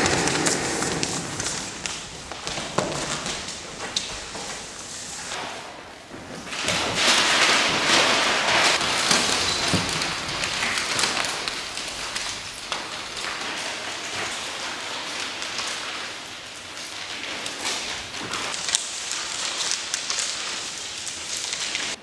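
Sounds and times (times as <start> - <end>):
paper crumpling and rustling: 0.0 - 5.5, 6.1 - 22.0.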